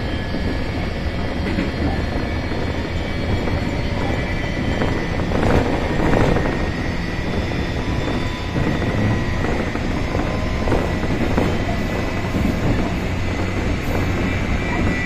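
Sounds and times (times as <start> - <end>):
traction motor whine: 0.0 - 15.0
train wheels rumbling on rail: 0.0 - 15.0.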